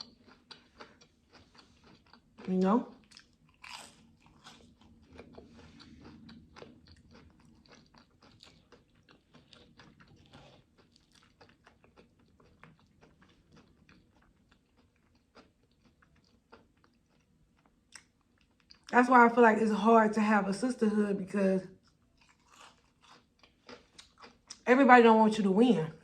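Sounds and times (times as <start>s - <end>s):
close-up chewing mouth clicks: 0.0s - 18.9s, 21.8s - 24.6s.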